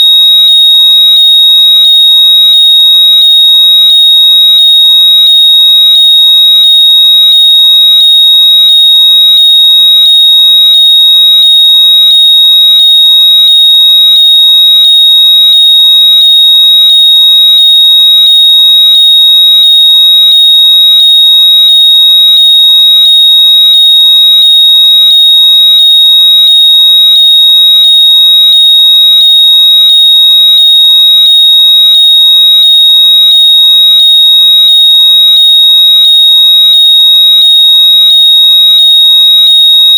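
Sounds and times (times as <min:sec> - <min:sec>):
high-pitched electronic tone: 0:00.0 - 0:39.9.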